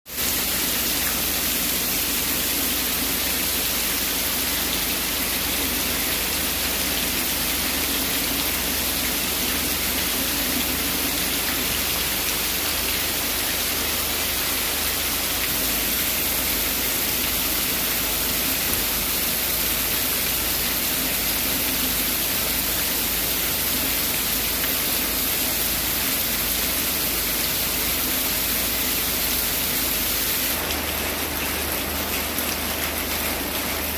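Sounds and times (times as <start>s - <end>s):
steady rain: 0.1s - 33.9s.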